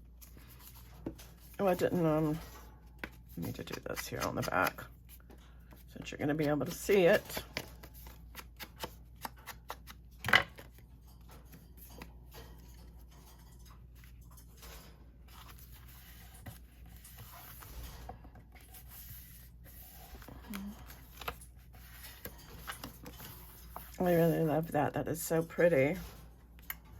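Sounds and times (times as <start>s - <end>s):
paper rustling: 0.0s - 13.0s, 13.8s - 24.6s.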